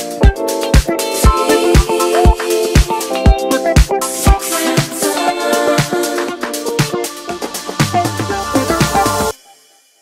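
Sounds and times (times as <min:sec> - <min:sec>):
electronic dance music: 0:00.0 - 0:09.8.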